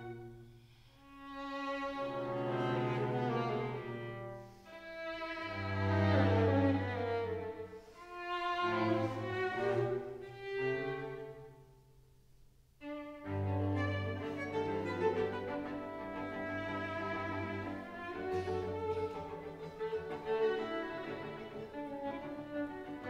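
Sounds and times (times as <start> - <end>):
cello low notes: 0.0 - 11.7, 12.8 - 23.0
violins: 0.0 - 11.7, 12.8 - 23.0
viola: 0.0 - 11.9, 12.8 - 23.0.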